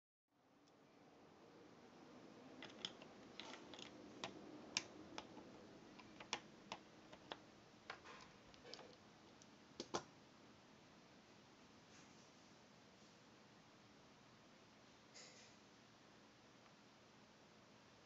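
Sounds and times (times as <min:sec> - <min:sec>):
faint room hum: 0:00.3 - 0:18.0.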